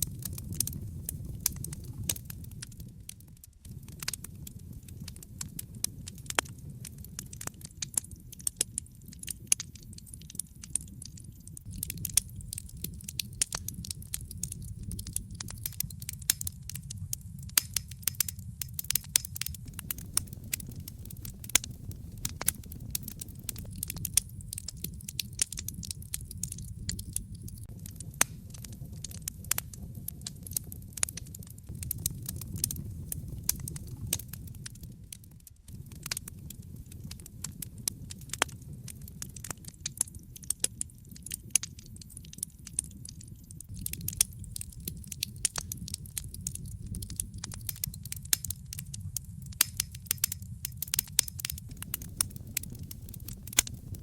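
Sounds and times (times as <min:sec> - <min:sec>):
fire low rumble: 0:00.0 - 0:54.0
fire pops and snaps: 0:00.0 - 0:54.0.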